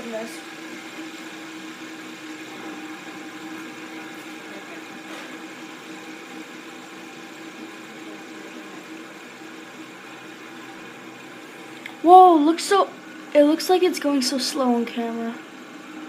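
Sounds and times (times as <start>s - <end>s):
fidget spinner whirring: 0.0s - 16.0s.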